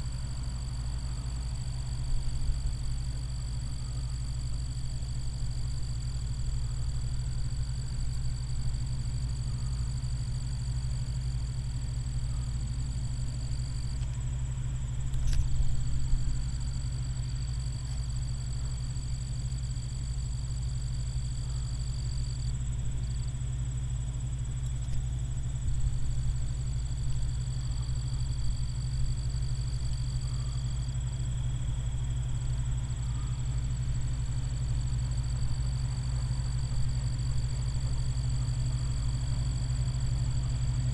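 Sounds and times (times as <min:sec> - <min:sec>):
combine harvester rumbling: 0:00.0 - 0:40.9.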